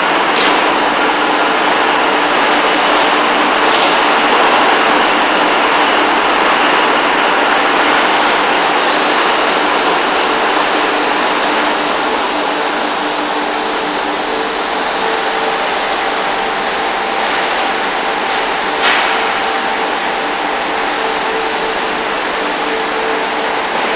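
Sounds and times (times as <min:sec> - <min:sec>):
loud factory hiss: 0:00.0 - 0:23.9.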